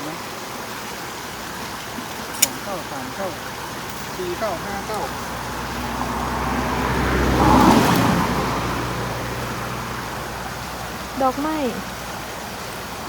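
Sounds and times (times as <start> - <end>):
motor vehicle passing by: 2.1 - 13.0.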